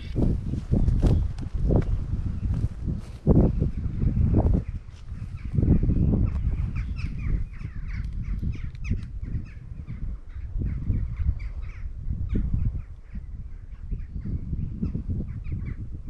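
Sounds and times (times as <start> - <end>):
birds calling and singing: 0.0 - 16.0.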